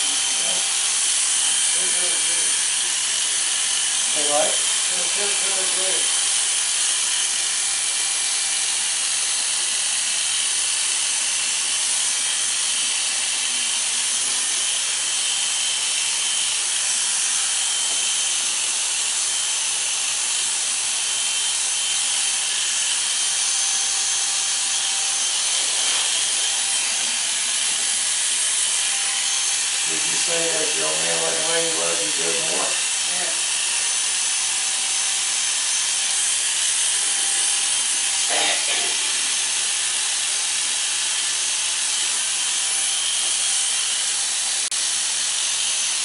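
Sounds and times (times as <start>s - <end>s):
electric hair clippers running: 0.0s - 46.0s.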